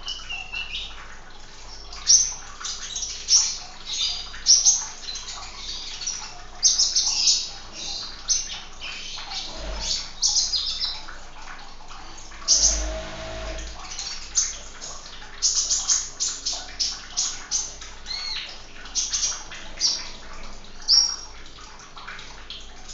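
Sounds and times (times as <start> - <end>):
birds chirping and twittering: 0.0 - 11.2, 12.0 - 22.9
trickle of running water: 0.0 - 22.9.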